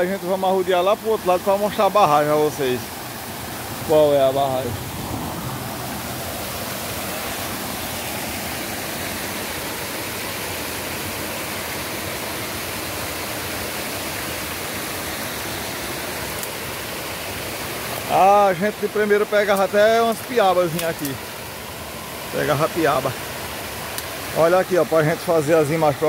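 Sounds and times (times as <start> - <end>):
floodwater rushing over ledge: 0.0 - 26.0.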